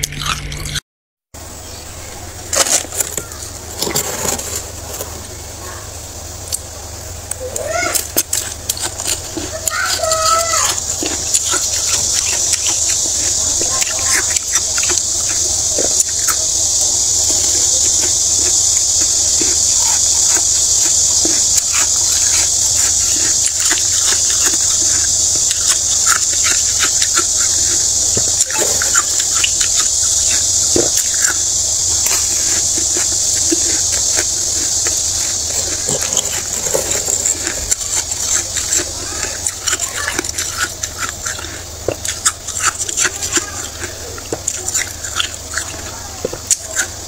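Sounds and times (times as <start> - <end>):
crunching and chewing frost: 0.0 - 0.8, 1.4 - 47.0
steady high hiss: 1.4 - 47.0.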